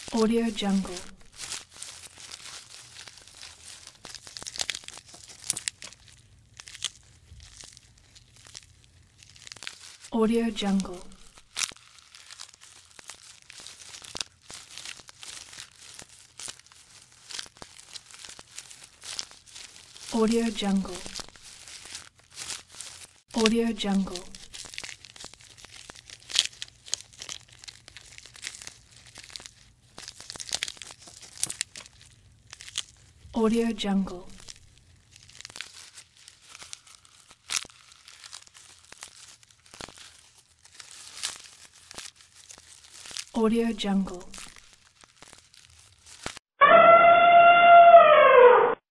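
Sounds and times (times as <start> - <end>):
giraffe chewing foliage: 0.0 - 10.1, 10.7 - 43.4
leaves rustling and tearing: 0.0 - 46.4.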